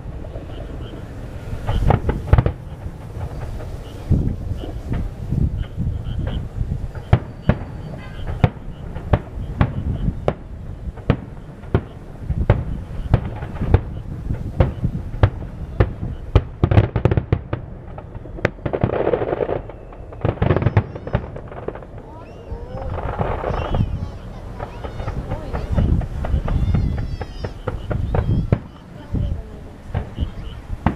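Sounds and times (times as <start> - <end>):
fireworks shells bursting: 0.0 - 30.9.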